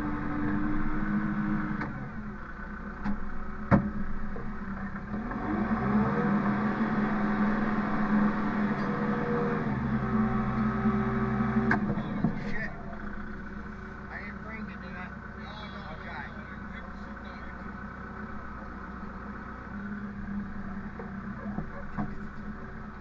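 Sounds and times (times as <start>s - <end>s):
machine engine running: 0.0s - 23.0s.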